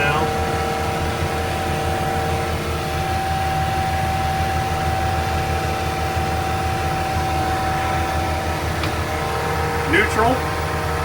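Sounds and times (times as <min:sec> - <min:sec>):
diesel engine running at full revs: 0:00.0 - 0:11.0
snowblower whine: 0:00.0 - 0:11.0.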